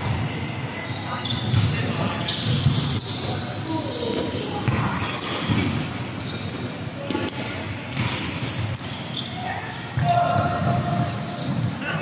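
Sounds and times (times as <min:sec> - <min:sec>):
shoes squeaking on court floor: 0:00.8 - 0:11.8.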